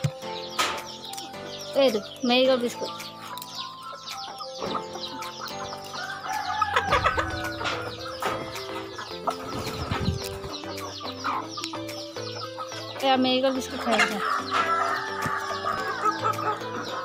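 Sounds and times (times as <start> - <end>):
background music: 0.0 - 17.0
chickens clucking: 0.0 - 17.0
chickens pecking: 0.0 - 17.0.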